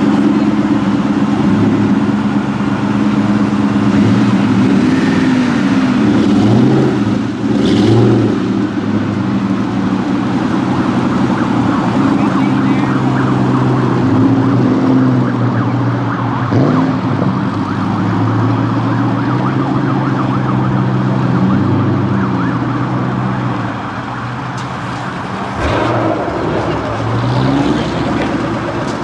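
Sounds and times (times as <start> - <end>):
car engine running at low revs: 0.0 - 29.0.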